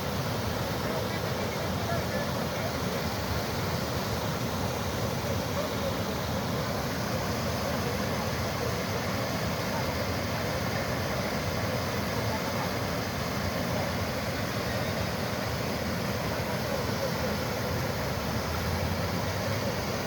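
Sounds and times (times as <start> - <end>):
water rushing over spillway: 0.0 - 20.0.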